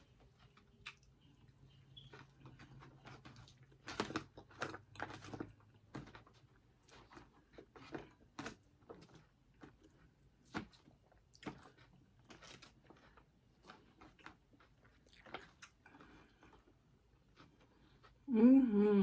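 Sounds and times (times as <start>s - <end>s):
person chewing food: 0.0s - 18.2s.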